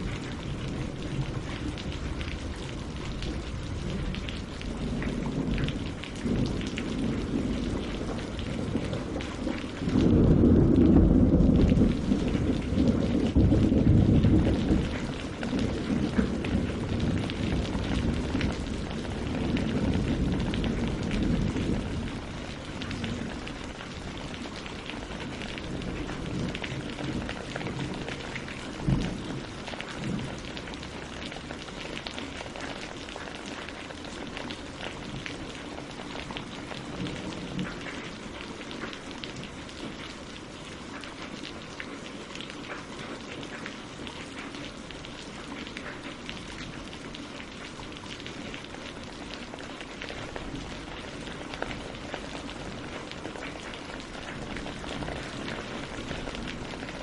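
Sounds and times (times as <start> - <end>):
rain on leaves and water: 0.0 - 57.0.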